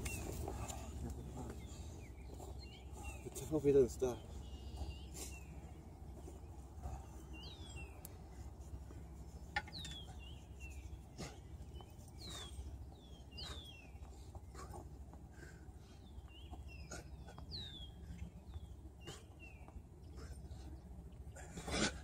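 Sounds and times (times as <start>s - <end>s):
bird chirping: 0.0s - 21.6s.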